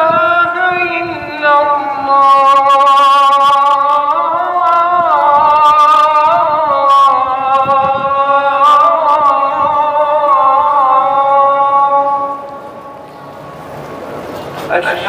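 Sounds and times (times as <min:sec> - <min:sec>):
person chanting long notes: 0:00.0 - 0:13.2.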